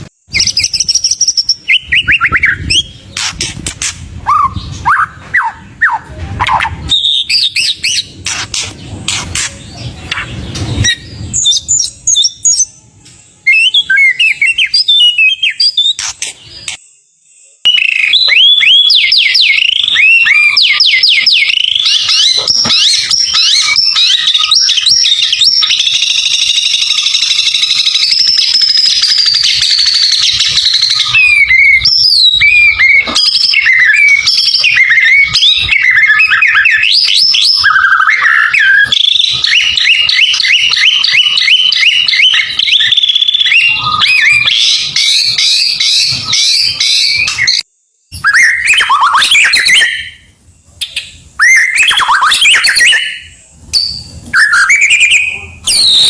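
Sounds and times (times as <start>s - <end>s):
bird singing whistled trills: 0.0s - 56.0s.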